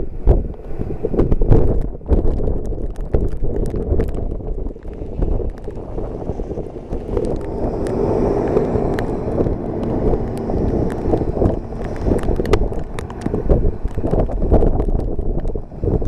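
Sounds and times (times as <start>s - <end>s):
blizzard wind buffeting microphone: 0.0s - 16.0s
small ticks and pops: 1.5s - 16.0s.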